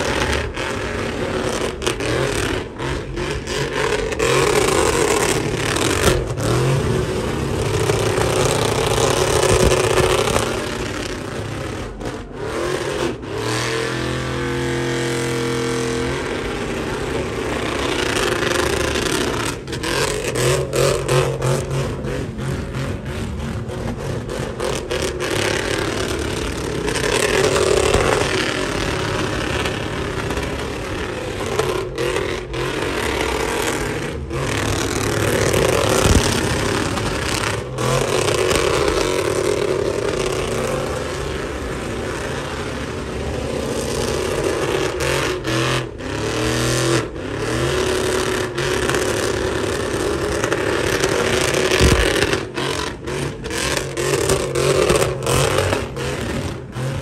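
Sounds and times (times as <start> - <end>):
pickup engine at high revs: 0.0 - 57.0
tyres spinning on pavement: 0.0 - 57.0.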